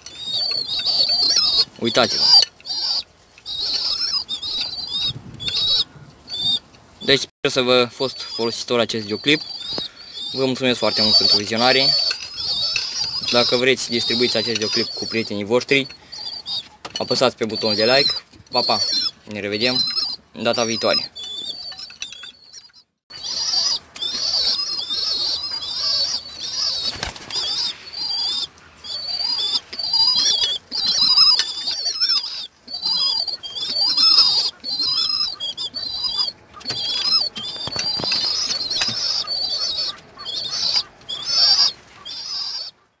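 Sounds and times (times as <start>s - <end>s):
wings fluttering: 0.0s - 7.2s, 8.3s - 42.7s
pigeon squabs squeaking: 0.0s - 42.9s.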